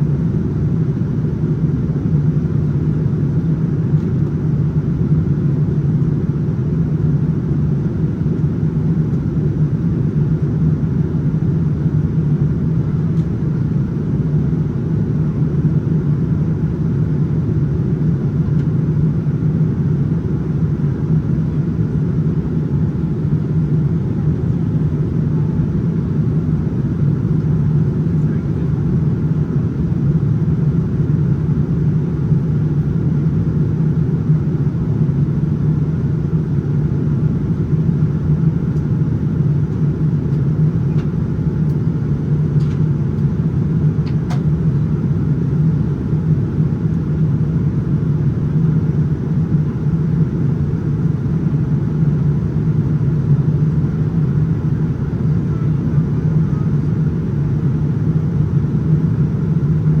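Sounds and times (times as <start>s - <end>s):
low rumble of engines and airflow: 0.0s - 60.0s.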